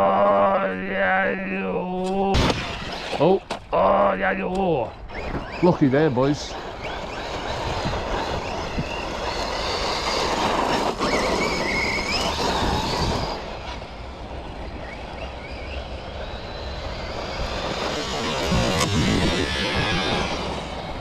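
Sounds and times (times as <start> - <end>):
rc car motor and gear whine: 0.0 - 21.0
tyres on rough ground: 0.0 - 21.0.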